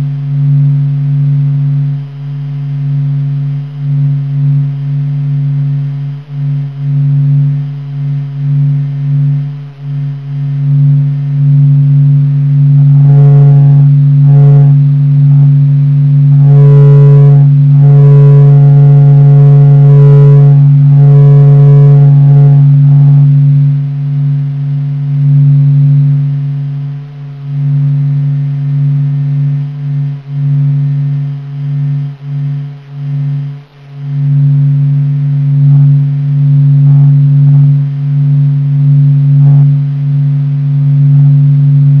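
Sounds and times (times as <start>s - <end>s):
fainter higher hum: 0.0s - 42.0s
steady low hum: 0.0s - 42.0s.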